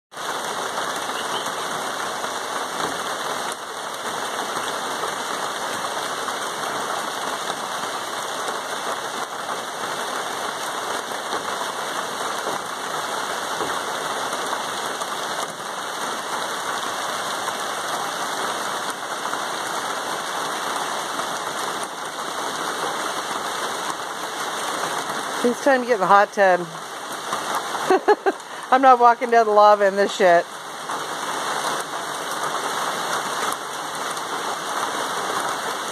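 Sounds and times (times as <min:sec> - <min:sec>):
rain falling on foliage: 0:00.1 - 0:35.9.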